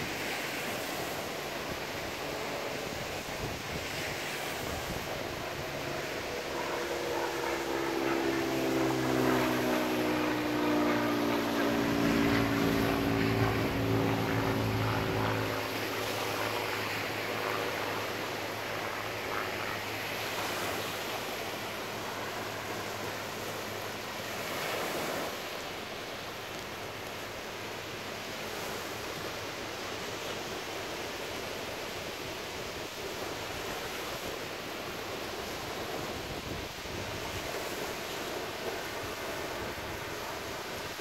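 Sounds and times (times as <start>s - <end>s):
small airplane engine drone: 0.0s - 41.0s
surf washing on beach: 0.0s - 41.0s.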